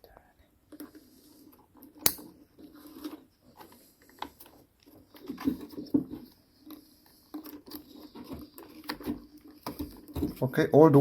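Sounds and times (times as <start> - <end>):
wires scratching and clicking: 0.7 - 10.9.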